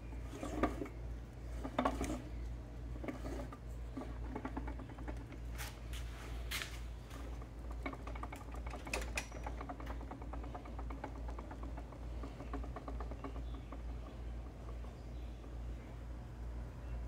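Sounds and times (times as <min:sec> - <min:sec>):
engine clicking turned by hand: 0:00.0 - 0:16.3
steady low hum: 0:00.0 - 0:17.0.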